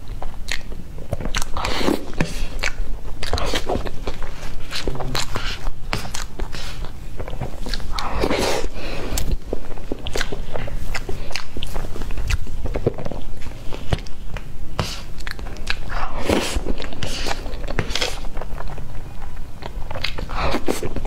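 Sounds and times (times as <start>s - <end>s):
wet chewing and lip smacks: 0.0s - 21.0s.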